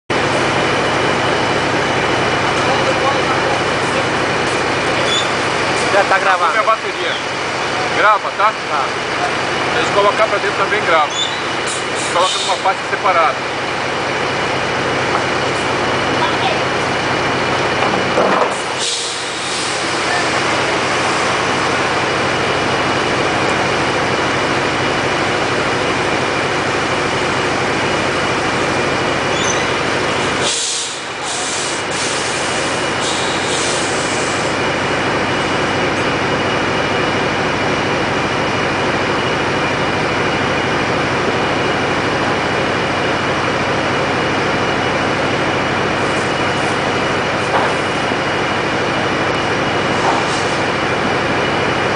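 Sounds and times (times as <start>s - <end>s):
diesel engine running: 0.1s - 51.9s
high whine: 0.1s - 51.9s.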